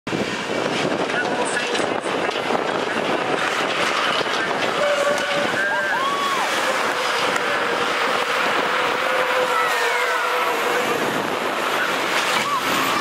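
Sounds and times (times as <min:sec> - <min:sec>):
diesel buses driving past: 0:02.1 - 0:13.0.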